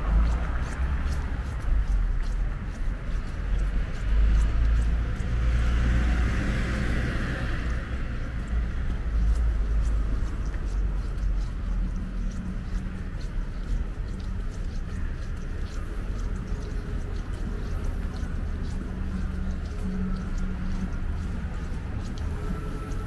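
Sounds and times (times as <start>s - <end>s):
city traffic rumble: 0.0s - 23.0s
footsteps on pavement: 0.0s - 23.0s
vehicle passing: 0.0s - 23.0s.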